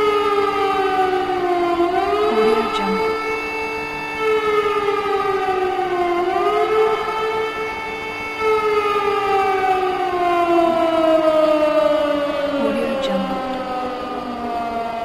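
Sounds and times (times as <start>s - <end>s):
air-raid siren wailing: 0.0s - 15.0s.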